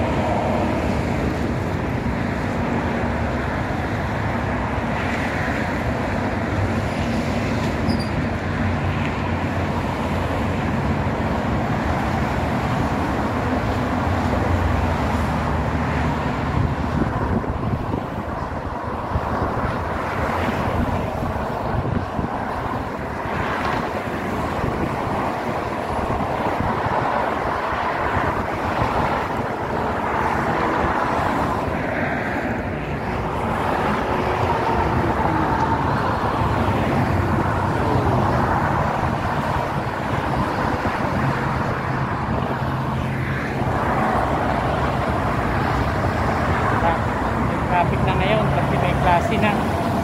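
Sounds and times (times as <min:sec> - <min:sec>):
cars passing: 0:00.0 - 0:50.0
wind rumbling on microphone: 0:00.0 - 0:50.0.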